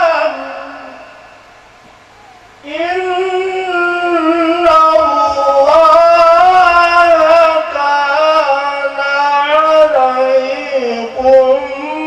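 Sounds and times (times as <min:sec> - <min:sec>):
man chanting into microphone: 0:00.0 - 0:01.3, 0:02.2 - 0:12.0.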